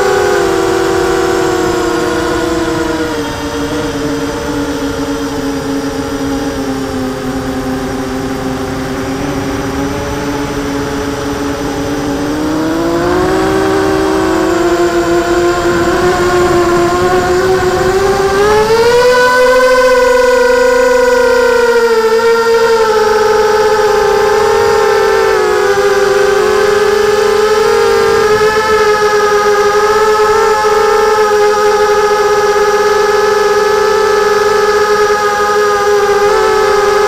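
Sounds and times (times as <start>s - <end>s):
quadcopter motors whining: 0.0s - 37.0s.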